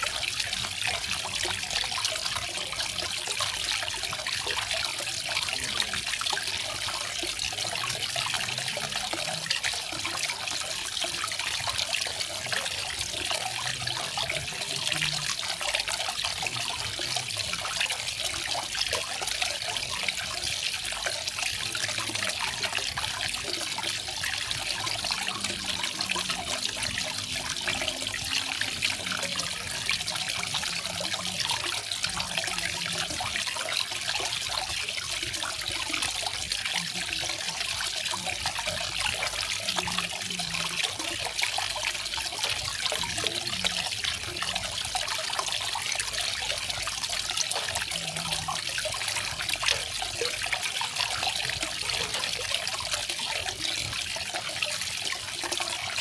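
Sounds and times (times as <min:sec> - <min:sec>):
water falling and splashing: 0:00.0 - 0:56.0.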